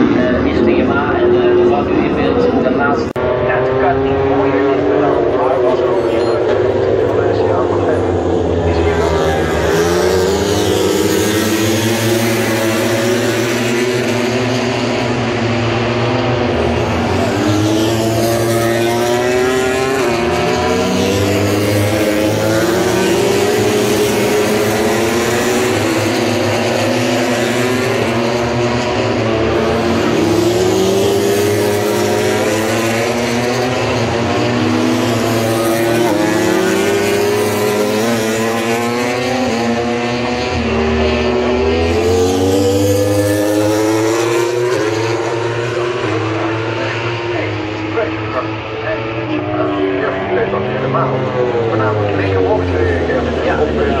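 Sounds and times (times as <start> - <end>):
racing motorcycles accelerating: 0.0 - 54.0.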